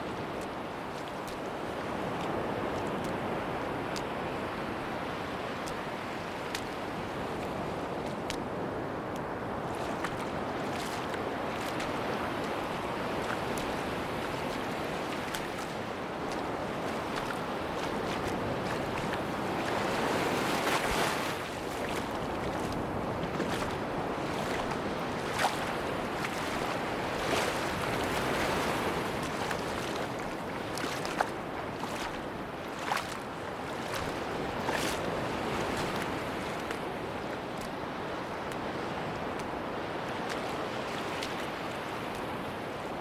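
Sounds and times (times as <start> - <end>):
sea waves washing onto beach: 0.0 - 43.0.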